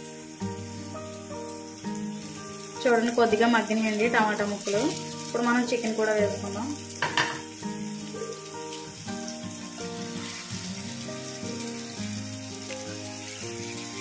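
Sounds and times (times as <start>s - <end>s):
background music of held notes: 0.0s - 14.0s
masala sizzling in a frying pan: 0.0s - 14.0s.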